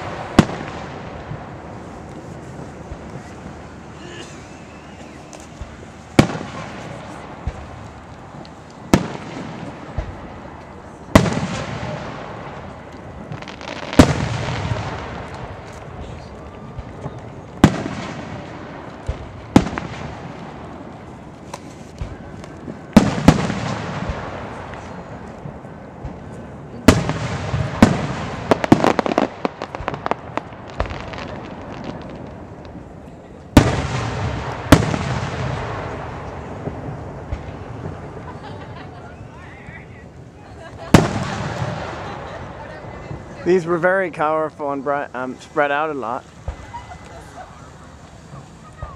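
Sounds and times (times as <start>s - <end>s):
firework shells booming: 0.0s - 38.8s, 40.7s - 43.7s.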